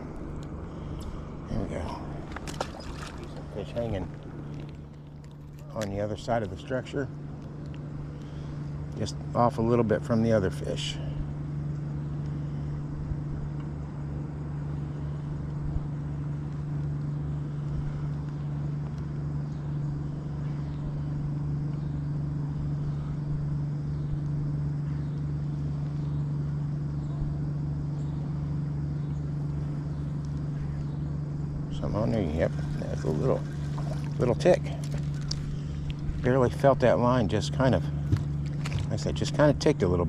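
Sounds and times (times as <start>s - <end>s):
boat motor humming: 0.0s - 40.0s.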